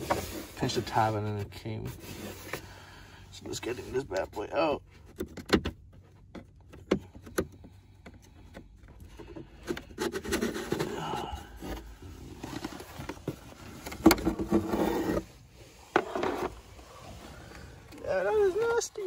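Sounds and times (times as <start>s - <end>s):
filter scraping against housing: 3.6s - 19.0s.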